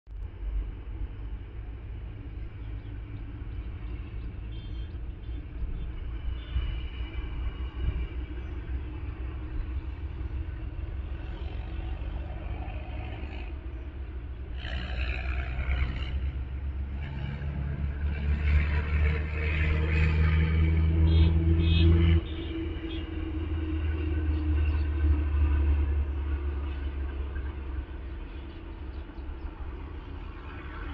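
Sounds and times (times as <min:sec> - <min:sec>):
distant highway traffic rumble: 0:00.1 - 0:30.9
truck engine drone: 0:00.1 - 0:30.9.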